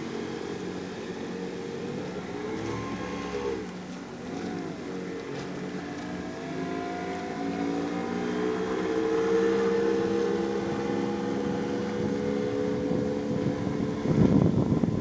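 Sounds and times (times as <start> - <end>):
outboard motor drone: 0.0 - 15.0.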